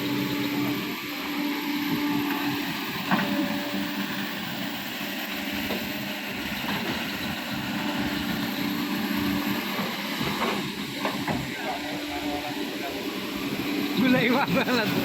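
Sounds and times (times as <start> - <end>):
excavator diesel engine humming: 0.0 - 15.0.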